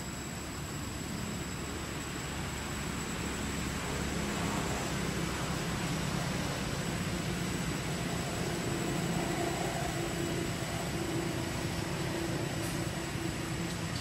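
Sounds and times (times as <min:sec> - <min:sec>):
faint hum: 0:00.0 - 0:14.0
high-pitched whine: 0:00.0 - 0:14.0.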